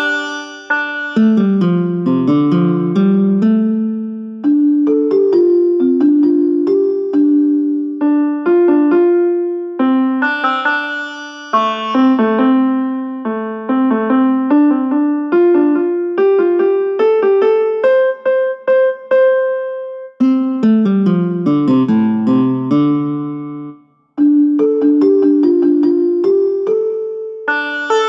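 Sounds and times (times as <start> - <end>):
ringtone melody: 0.0 - 13.3, 16.7 - 28.0.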